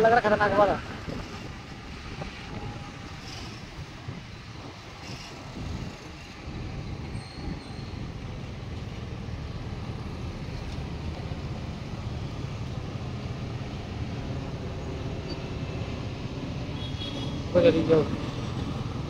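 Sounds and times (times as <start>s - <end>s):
car traffic: 0.0s - 19.0s
road noise: 0.0s - 19.0s.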